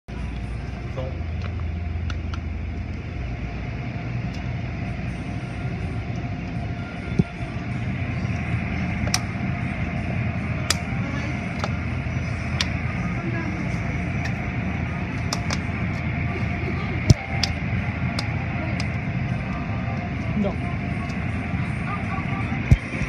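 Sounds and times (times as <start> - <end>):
car wash machinery rumbling: 0.0 - 23.0.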